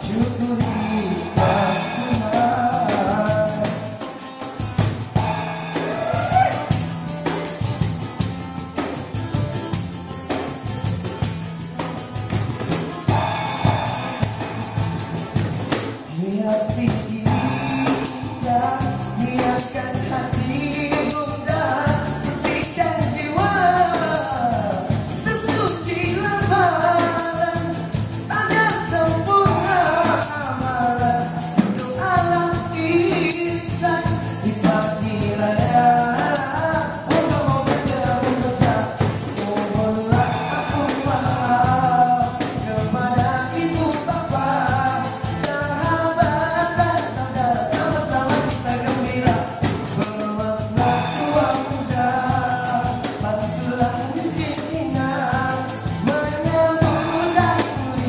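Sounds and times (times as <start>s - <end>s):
voices singing: 0.0s - 4.2s, 5.0s - 7.1s, 12.9s - 58.0s
strummed acoustic guitars: 0.0s - 58.0s
tambourine shaken: 0.0s - 58.0s.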